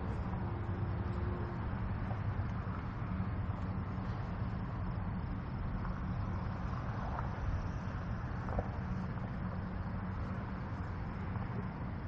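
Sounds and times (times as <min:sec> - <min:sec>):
distant highway traffic: 0:00.0 - 0:12.0.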